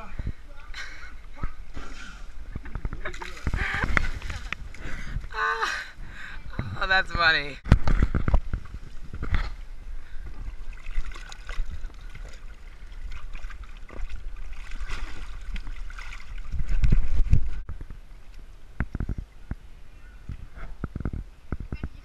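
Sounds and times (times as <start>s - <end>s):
low rumble on microphone: 0.0s - 22.0s
water gurgling and trickling: 1.2s - 22.0s.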